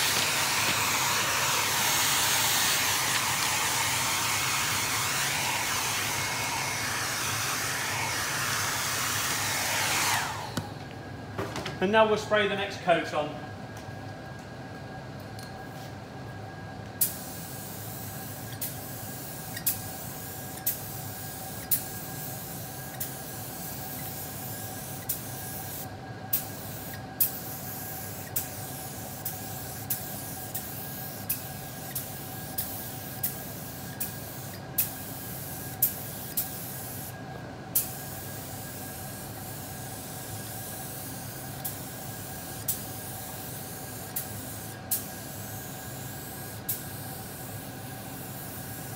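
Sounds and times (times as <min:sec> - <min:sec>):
spray gun hissing: 0:00.0 - 0:10.6, 0:17.0 - 0:37.2, 0:37.8 - 0:48.9
steady hum: 0:00.0 - 0:48.9.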